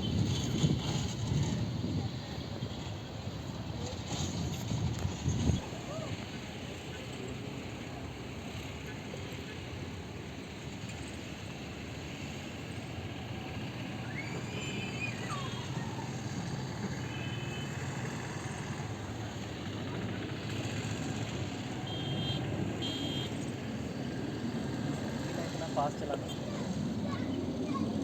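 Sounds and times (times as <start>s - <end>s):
jet aircraft rumble: 0.0s - 28.0s.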